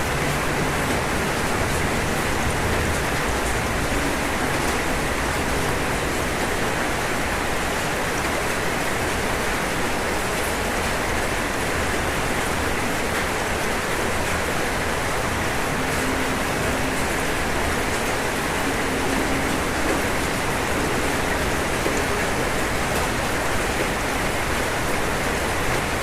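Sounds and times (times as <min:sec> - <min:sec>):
rain on a roof: 0:00.0 - 0:26.0.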